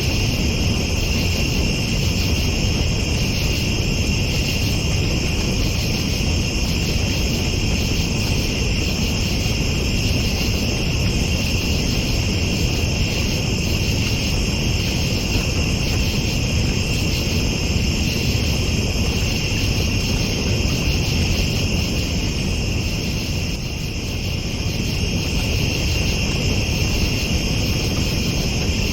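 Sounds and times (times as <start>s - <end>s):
continuous low rumble: 0.0s - 28.9s
crickets trilling: 0.0s - 28.9s.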